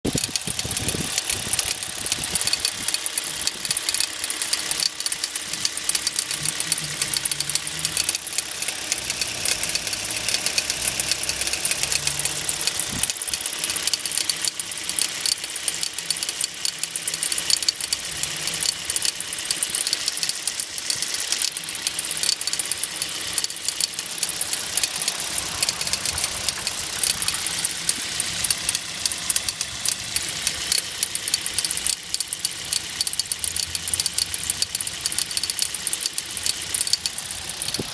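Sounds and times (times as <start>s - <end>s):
car engine running: 0.0s - 37.9s
rapid engine knocking: 0.0s - 37.9s.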